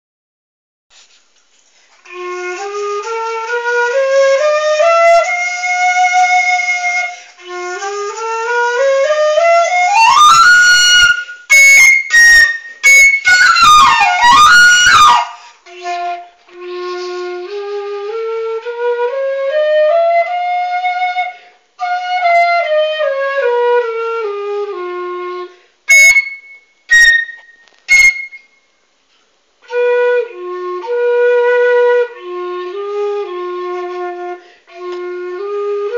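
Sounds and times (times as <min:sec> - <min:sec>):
bamboo flute playing scales: 0:01.9 - 0:28.9, 0:29.6 - 0:35.9.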